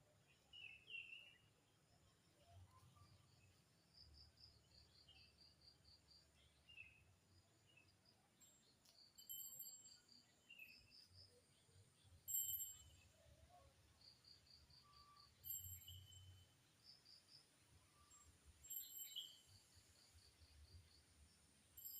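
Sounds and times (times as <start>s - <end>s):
insect chirping: 1.0s - 21.9s.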